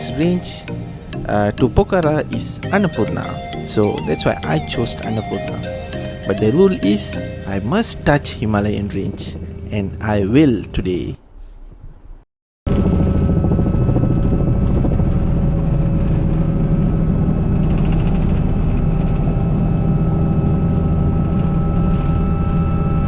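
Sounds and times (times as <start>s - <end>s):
helicopter engine hum: 0.0s - 9.8s, 12.7s - 23.0s
helicopter rotor blades beating: 0.0s - 10.1s, 12.7s - 23.0s.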